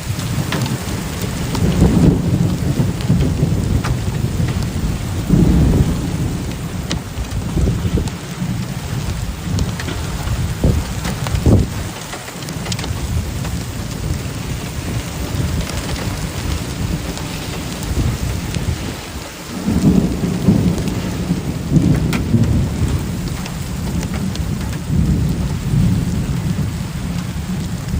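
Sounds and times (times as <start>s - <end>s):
heavy rain pouring: 0.0s - 27.9s
thunder rumbling: 0.0s - 27.9s.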